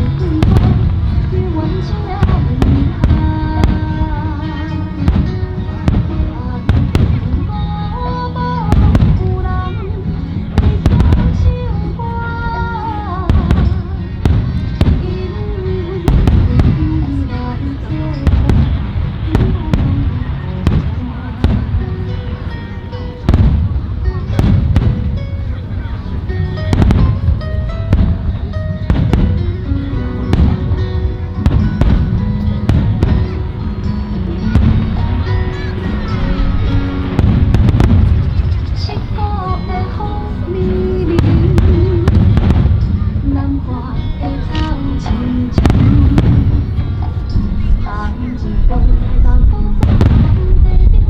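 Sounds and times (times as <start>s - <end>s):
fireworks bursting with sharp bangs: 0.0s - 51.0s
melodic music playing: 0.0s - 51.0s.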